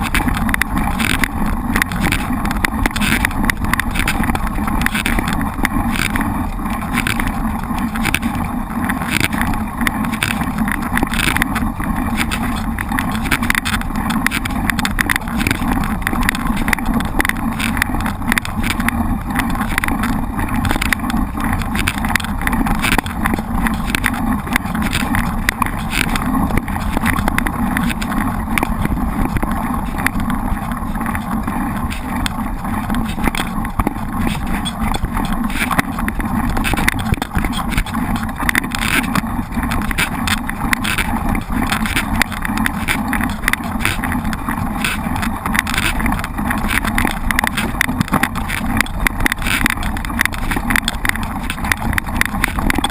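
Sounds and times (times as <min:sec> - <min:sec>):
bike rattling and knocking: 0:00.0 - 0:52.9
wind and tyre rumble: 0:00.0 - 0:52.9.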